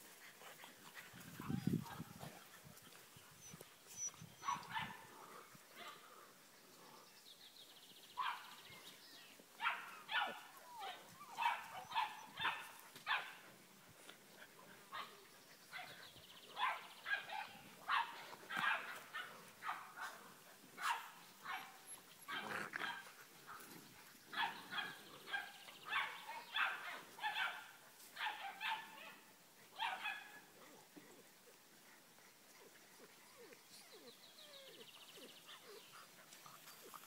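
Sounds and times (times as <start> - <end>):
puppies barking and yapping: 0.1 - 6.0, 9.6 - 13.4, 14.3 - 37.0.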